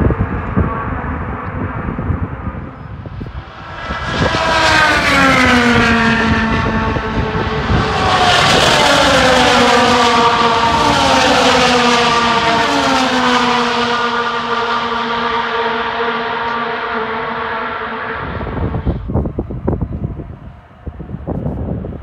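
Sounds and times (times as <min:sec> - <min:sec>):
racing car engines passing by: 0:00.0 - 0:22.0.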